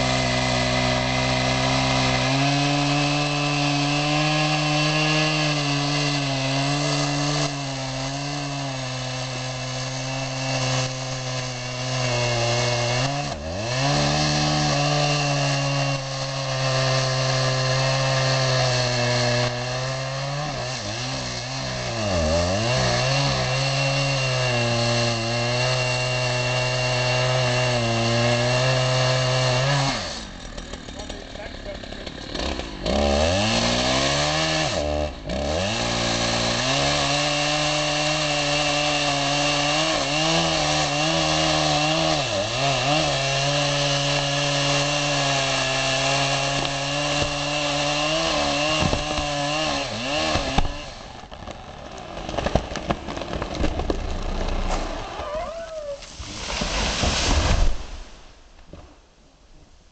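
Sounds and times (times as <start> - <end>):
chainsaw cutting tree trunk: 0.0 - 58.2.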